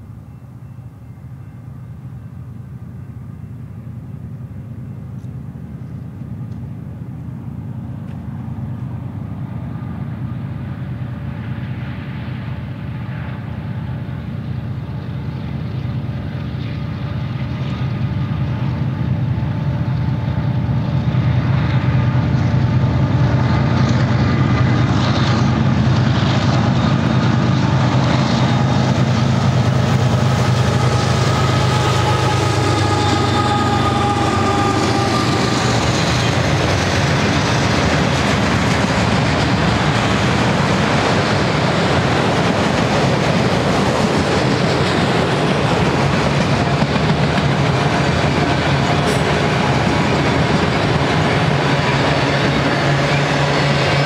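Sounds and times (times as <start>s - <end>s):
diesel locomotive engine drone: 0.0s - 54.0s
steel wheels rumbling on rail: 0.0s - 54.0s.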